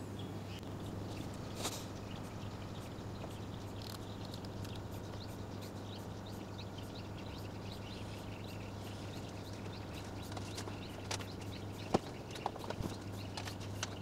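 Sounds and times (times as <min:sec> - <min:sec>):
low steady hum: 0:00.0 - 0:14.0
quick bird chirps: 0:00.2 - 0:14.0.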